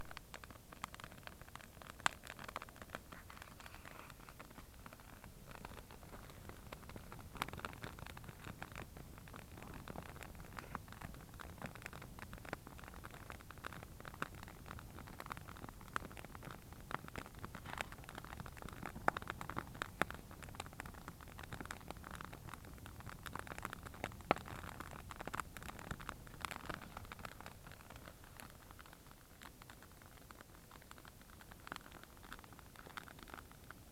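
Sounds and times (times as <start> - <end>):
campfire crackling and popping: 0.0 - 33.9
low hiss: 0.0 - 33.9.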